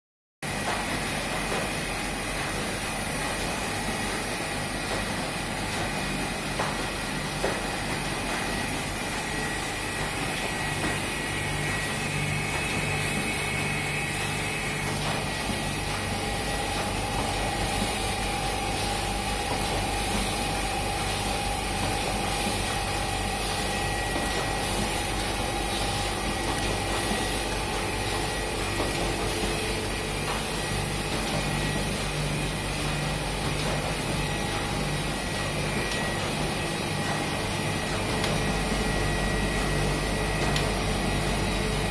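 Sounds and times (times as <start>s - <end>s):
printing press mechanical hum: 0.4s - 41.9s.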